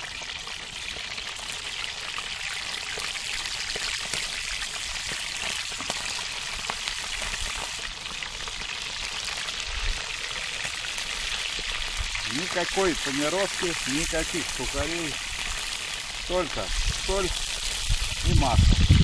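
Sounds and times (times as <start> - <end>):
fish sizzling in oil: 0.0 - 19.0.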